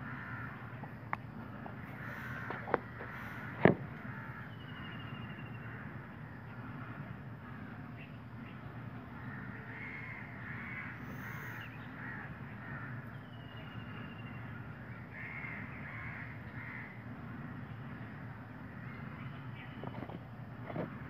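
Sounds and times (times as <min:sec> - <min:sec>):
crow cawing: 0:00.0 - 0:00.8, 0:01.7 - 0:08.0, 0:09.0 - 0:19.2
low background hum: 0:00.0 - 0:21.0.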